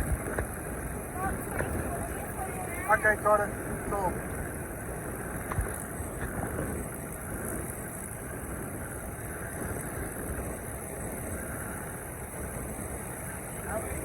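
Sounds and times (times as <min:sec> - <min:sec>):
distant piston aircraft engines: 0:00.0 - 0:14.0.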